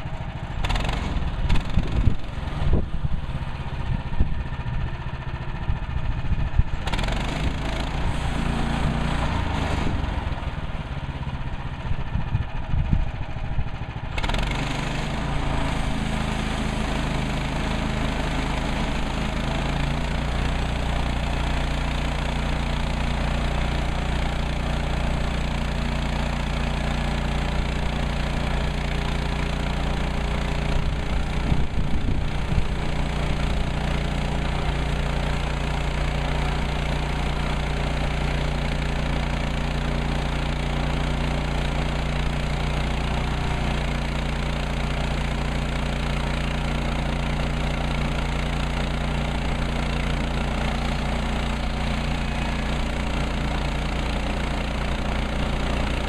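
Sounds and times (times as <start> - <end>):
sawmill gas engine running: 0.0 - 56.0.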